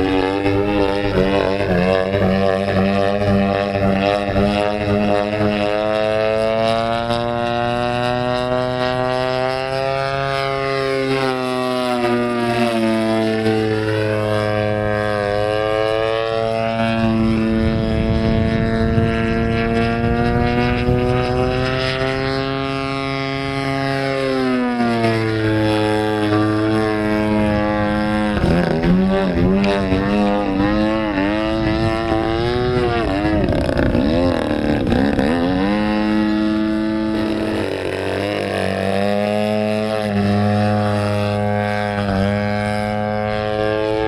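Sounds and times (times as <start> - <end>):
model aeroplane engine buzzing: 0.0 - 44.0.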